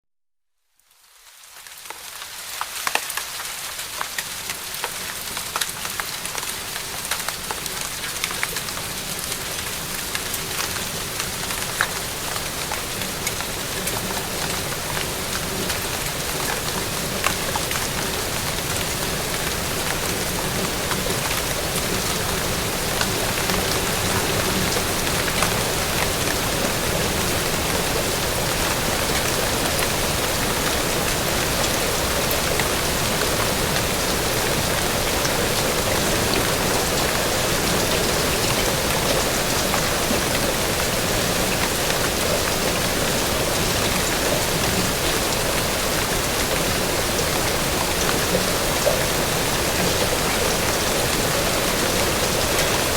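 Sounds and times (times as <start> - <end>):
rain falling: 0.8 - 52.9
raindrops ticking on a surface: 0.8 - 52.9.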